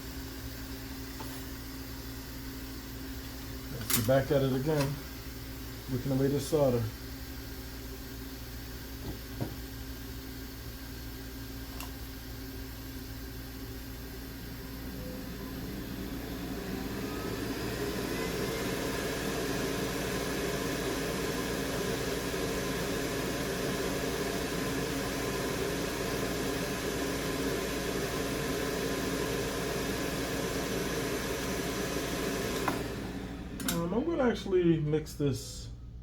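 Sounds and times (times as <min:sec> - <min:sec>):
fume extractor fan humming: 0:00.0 - 0:36.0.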